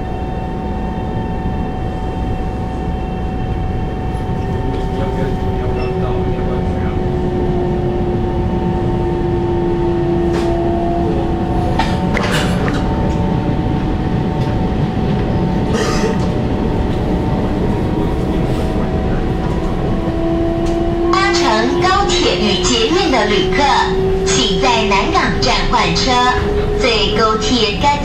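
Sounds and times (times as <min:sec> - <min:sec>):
traction motor whine: 0:00.0 - 0:28.0
train running rumble: 0:00.0 - 0:28.0.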